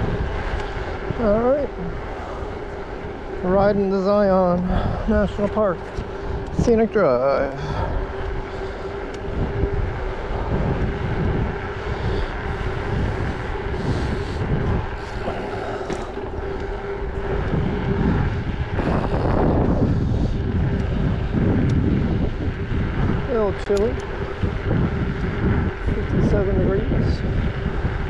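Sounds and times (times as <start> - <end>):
steady hum: 0.0 - 28.0
wind rushing over microphone: 0.0 - 28.0.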